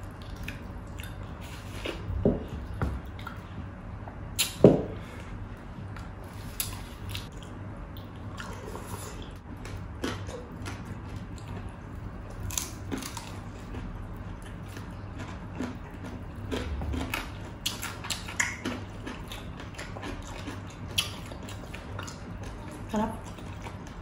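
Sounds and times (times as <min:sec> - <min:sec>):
chewing crispy fried pork: 0:00.0 - 0:02.1, 0:06.0 - 0:24.0.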